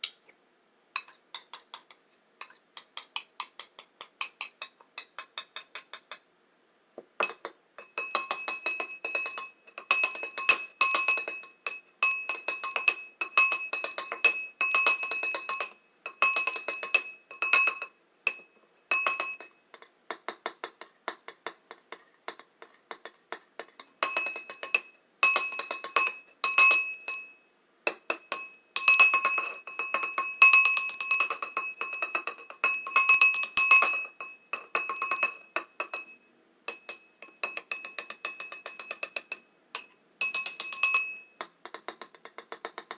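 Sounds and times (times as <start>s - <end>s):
bowl tapped with ringing tones: 7.2s - 21.6s, 22.3s - 42.9s.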